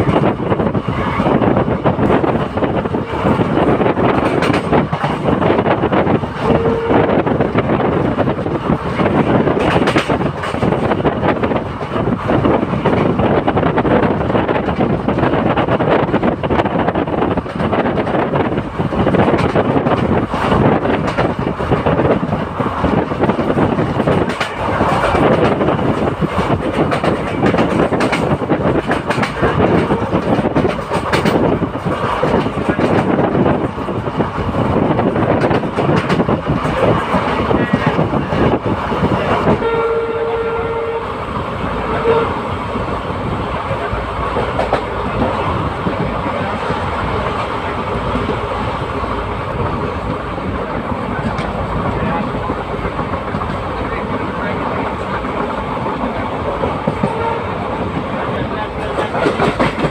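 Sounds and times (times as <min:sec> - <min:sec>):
train rumbling and rattling on track: 0:00.0 - 0:59.9
wind buffeting microphone: 0:00.0 - 0:59.9.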